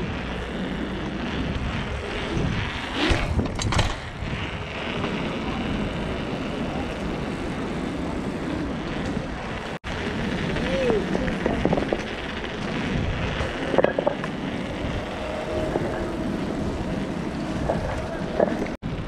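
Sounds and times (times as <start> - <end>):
bike tyres rolling on paving stones: 0.0 - 19.0
wind on microphone: 0.0 - 19.0.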